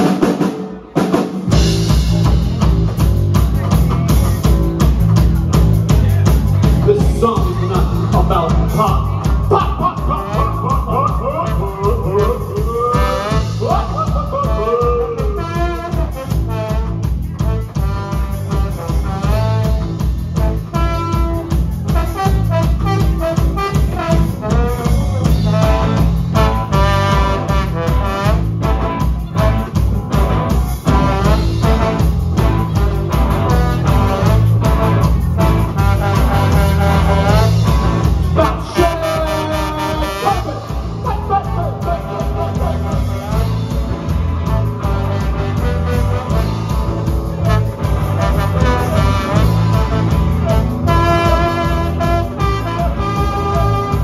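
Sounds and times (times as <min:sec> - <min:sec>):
live band playing: 0:00.0 - 0:54.0
trombone: 0:08.4 - 0:54.0.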